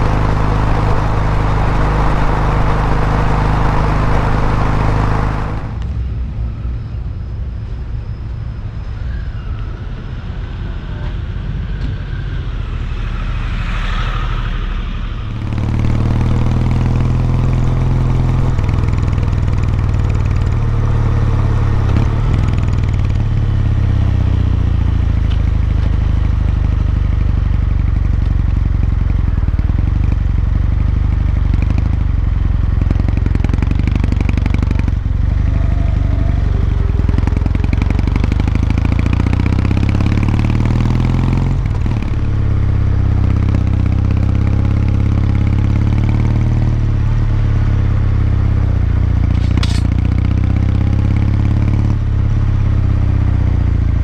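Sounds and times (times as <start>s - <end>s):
motorcycle engine running: 0.0s - 6.2s, 15.1s - 54.0s.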